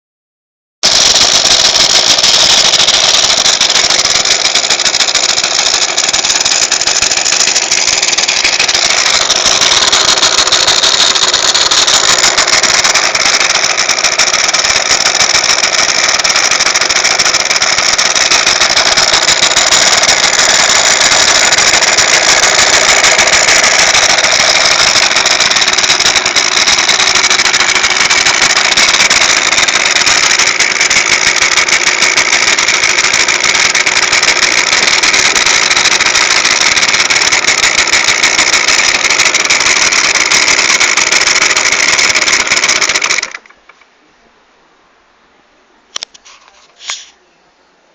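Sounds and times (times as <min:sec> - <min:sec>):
scooter engine running: 0:00.8 - 0:43.6
clutch noise: 0:00.8 - 0:43.8.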